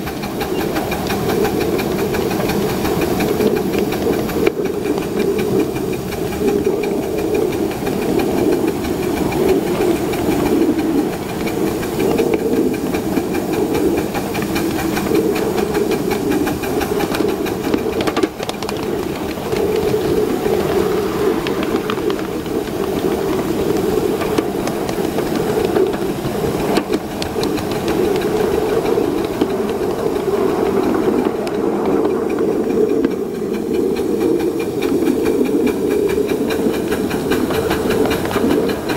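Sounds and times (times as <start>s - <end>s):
model steam locomotive running: 0.0s - 38.9s
steam hissing: 0.0s - 38.9s.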